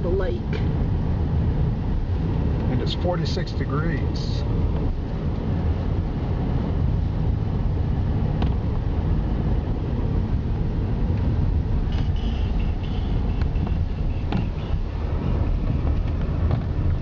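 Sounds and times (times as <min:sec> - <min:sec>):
engine and tyre rumble: 0:00.0 - 0:17.0.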